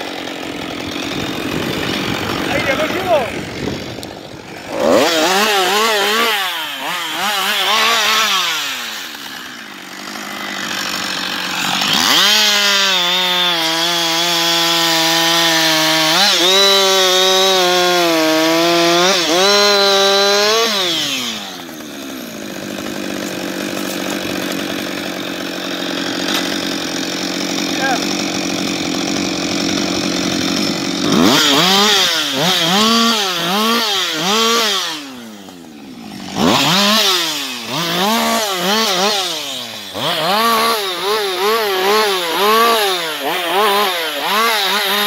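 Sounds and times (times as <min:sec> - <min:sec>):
chainsaw revving and cutting log: 0:00.0 - 0:45.0.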